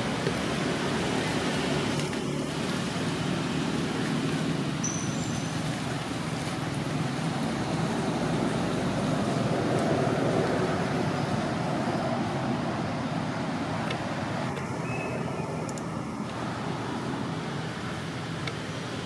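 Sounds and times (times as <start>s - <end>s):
low hum of distant traffic: 0.0s - 19.0s.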